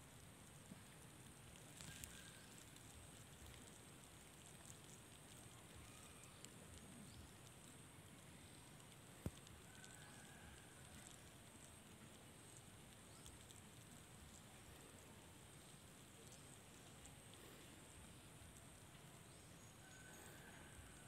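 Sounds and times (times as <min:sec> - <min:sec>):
faint background hiss: 0:00.0 - 0:21.0
soft ticks: 0:00.1 - 0:21.0.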